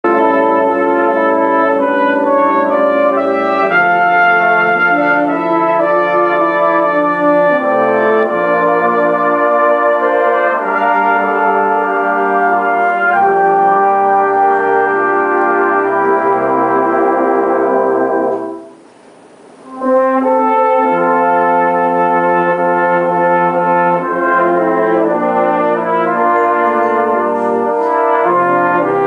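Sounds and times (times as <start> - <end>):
brass band playing slow chords: 0.0 - 29.0.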